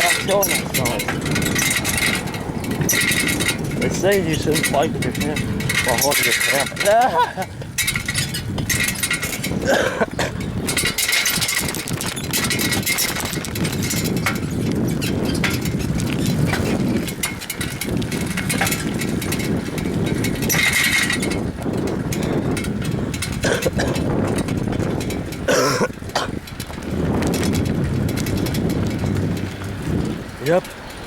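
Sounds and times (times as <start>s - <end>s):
bicycle rattling and clicking: 0.0s - 31.0s
wind buffeting microphone: 0.0s - 31.0s.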